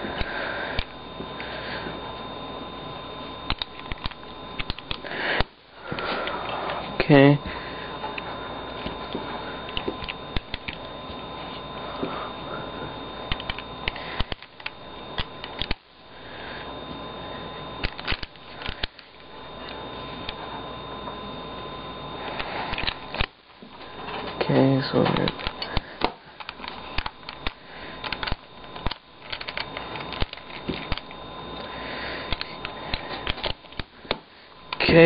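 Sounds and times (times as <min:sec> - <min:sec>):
high electrical whine: 0:00.0 - 0:35.0.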